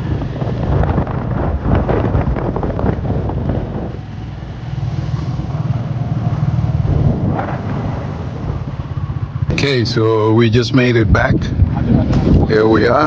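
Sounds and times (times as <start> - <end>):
vehicle engine humming: 0.0 - 13.0
wind buffeting microphone: 0.0 - 13.0.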